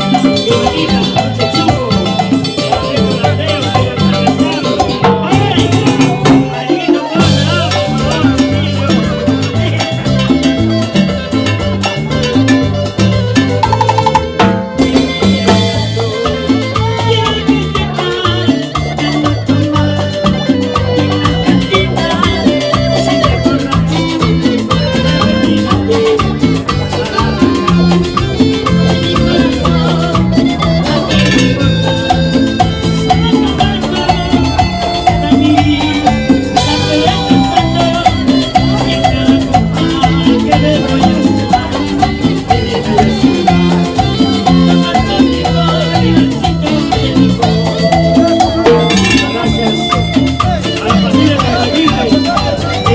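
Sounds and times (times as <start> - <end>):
bass line: 0.0 - 52.9
live band playing dance music: 0.0 - 52.9
percussion: 0.0 - 52.9.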